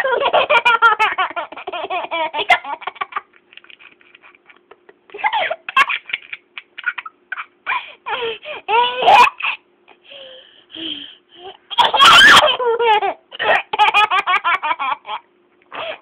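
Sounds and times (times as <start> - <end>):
small child laughing: 0.0 - 10.0, 11.4 - 16.0.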